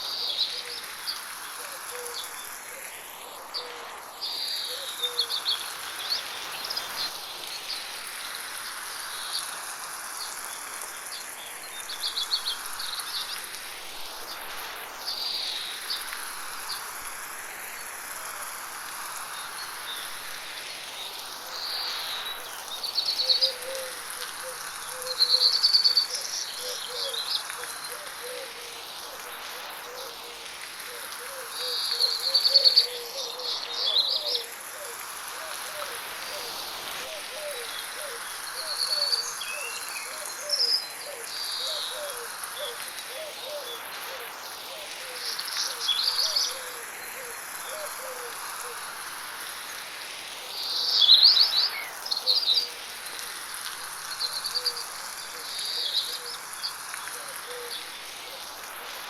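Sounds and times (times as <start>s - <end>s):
light rain hissing: 0.0s - 59.0s.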